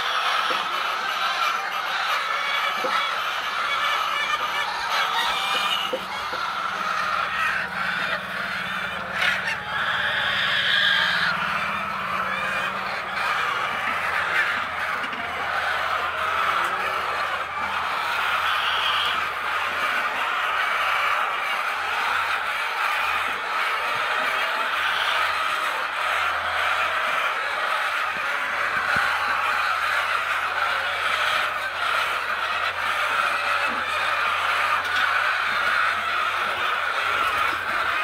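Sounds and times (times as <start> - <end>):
flock of fowl calling: 0.0 - 38.0.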